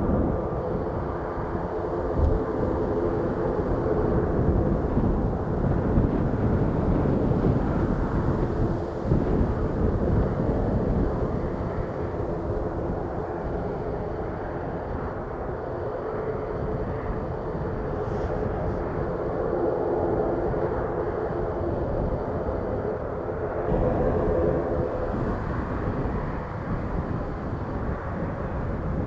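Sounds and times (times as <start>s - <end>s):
jet engines rumbling: 0.0s - 29.0s
wind on microphone: 0.0s - 29.0s.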